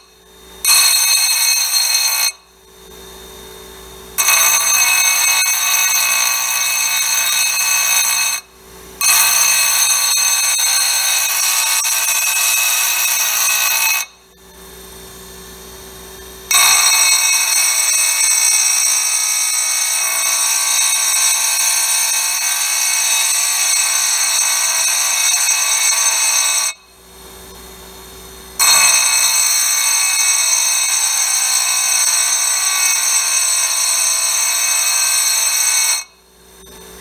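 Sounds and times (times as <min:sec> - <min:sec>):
grinding wheel grinding: 0:00.6 - 0:02.4, 0:04.1 - 0:14.2, 0:16.5 - 0:26.8, 0:28.6 - 0:36.7.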